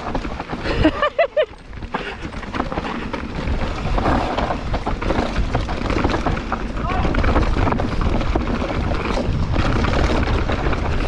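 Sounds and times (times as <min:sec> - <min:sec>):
bike rattling over bumpy ground: 0:00.0 - 0:11.0.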